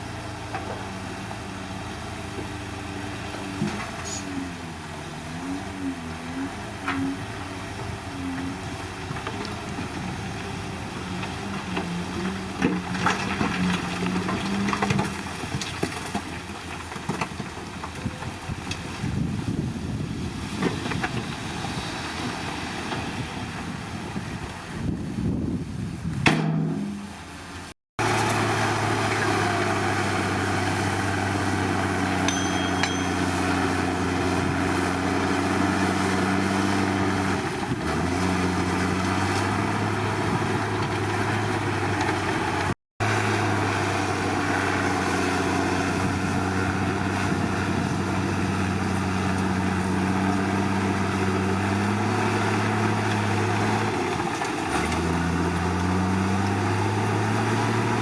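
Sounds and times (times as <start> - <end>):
bulldozer diesel engine running: 0.0 - 24.7, 27.0 - 58.0.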